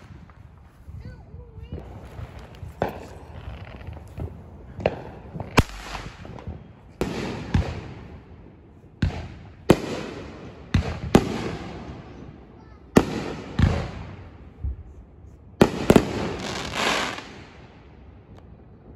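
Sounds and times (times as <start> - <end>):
fireworks bangs: 0.0 - 14.8, 15.6 - 17.8.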